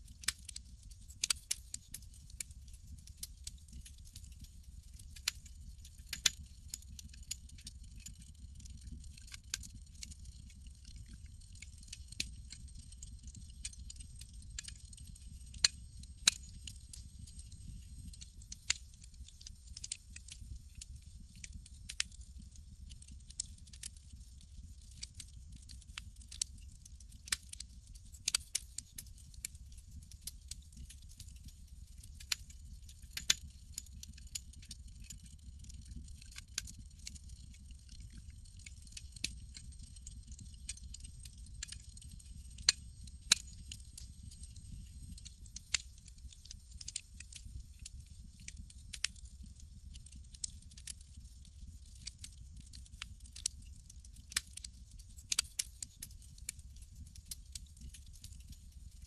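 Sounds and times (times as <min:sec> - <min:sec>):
campfire crackling: 0:00.2 - 0:22.1, 0:22.8 - 0:29.4, 0:33.1 - 0:51.2, 0:51.9 - 0:54.4, 0:55.2 - 0:55.6.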